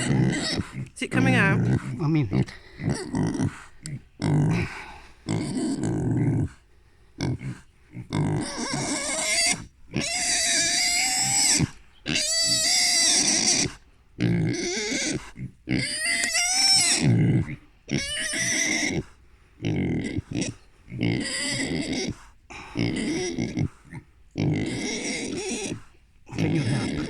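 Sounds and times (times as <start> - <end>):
piglet squealing: 0.0 - 4.6, 7.2 - 19.1, 19.8 - 22.2, 22.8 - 23.8, 24.4 - 27.0.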